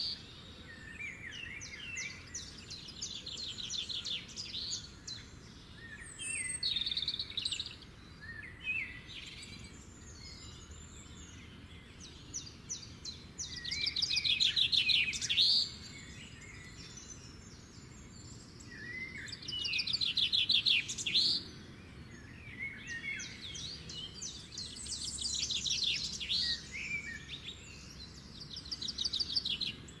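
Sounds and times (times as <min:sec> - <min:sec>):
bird chirps: 0:00.0 - 0:30.0
songbirds trilling: 0:00.0 - 0:30.0.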